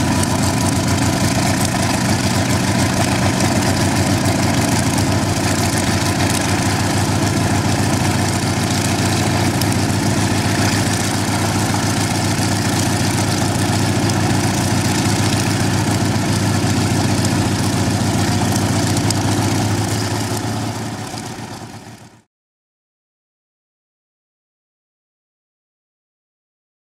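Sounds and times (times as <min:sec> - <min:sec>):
helicopter engines running: 0:00.0 - 0:22.2.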